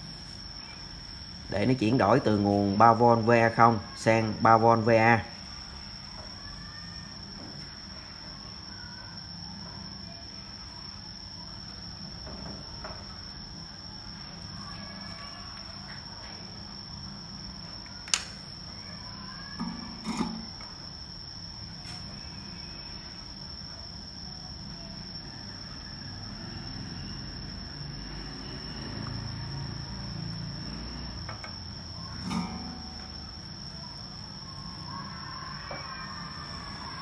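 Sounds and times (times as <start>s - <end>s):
low bench noise: 0.0s - 37.0s.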